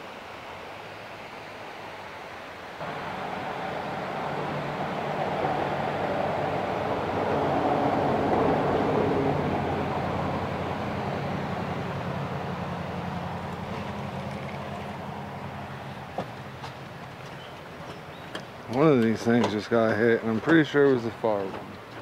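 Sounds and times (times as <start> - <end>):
water rushing through spillway: 0.0 - 22.0.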